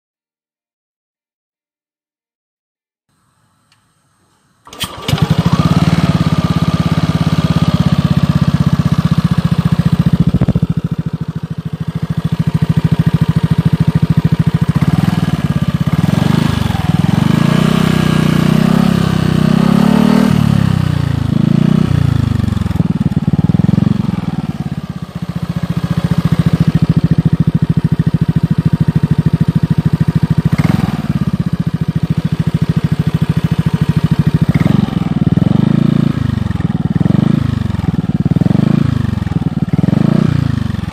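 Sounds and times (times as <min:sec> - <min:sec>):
engine idling and revving: 0:04.7 - 0:40.9.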